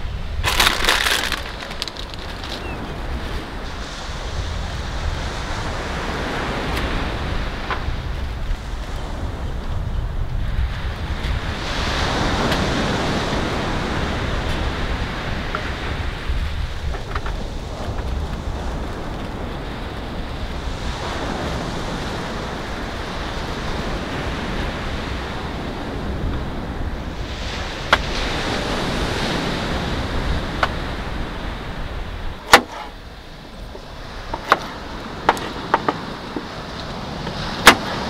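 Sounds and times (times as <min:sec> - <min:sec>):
surf washing on pebble shore: 0:00.0 - 0:38.0
wind: 0:00.0 - 0:38.0.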